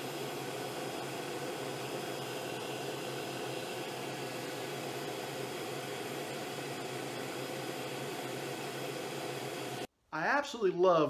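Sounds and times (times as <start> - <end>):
lathe buffing wheel humming: 0.0 - 9.9.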